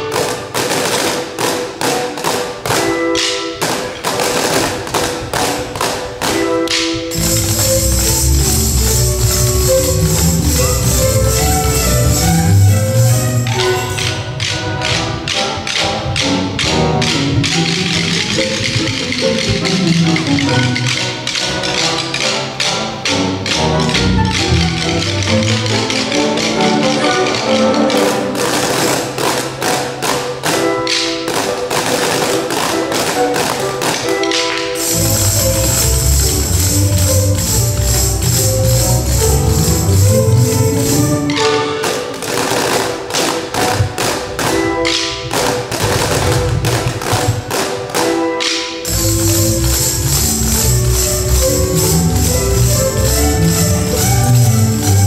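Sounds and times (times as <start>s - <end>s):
backing music: 0.0s - 55.0s
children drumming on pails: 0.0s - 55.0s.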